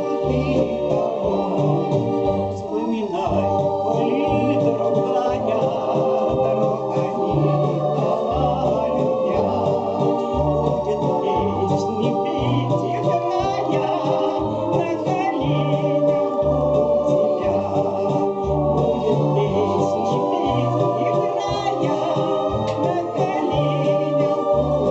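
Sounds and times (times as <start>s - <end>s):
bass line: 0.0s - 24.9s
organ-like keyboard chords: 0.0s - 24.9s.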